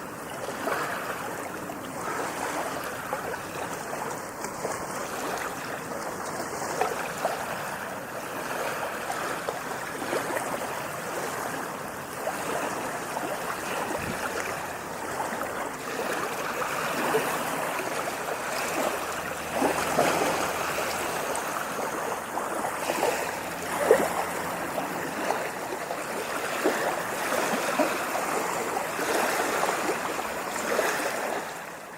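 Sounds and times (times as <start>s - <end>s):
running water: 0.0s - 31.9s.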